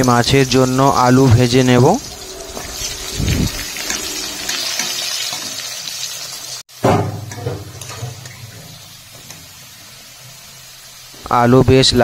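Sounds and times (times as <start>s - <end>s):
spatula turning potatoes: 0.0s - 11.3s
potatoes sizzling in oil: 0.0s - 12.0s.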